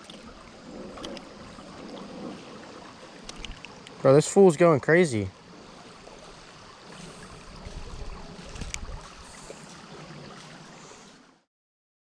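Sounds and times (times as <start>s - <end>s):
creek water over gravel: 0.0s - 11.5s.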